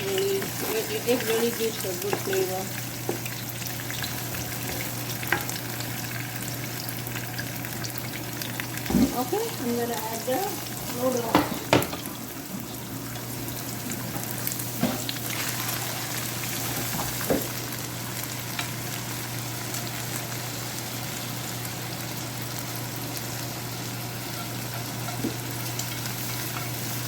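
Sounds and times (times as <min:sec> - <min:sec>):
noodles sizzling in hot oil: 0:00.0 - 0:27.0.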